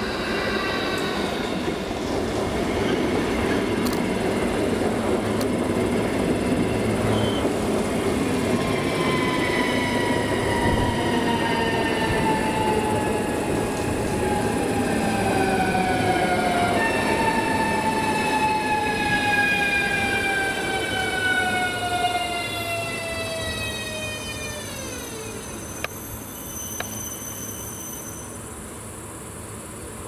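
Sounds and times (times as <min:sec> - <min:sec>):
rumble of train cars: 0:00.0 - 0:30.0.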